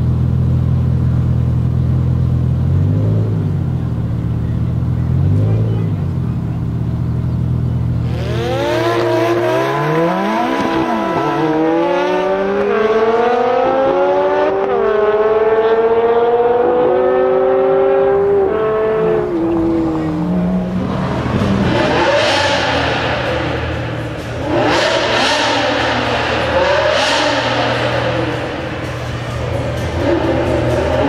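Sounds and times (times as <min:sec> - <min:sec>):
car engine accelerating hard: 0:00.0 - 0:31.0
second car engine accelerating: 0:00.0 - 0:31.0.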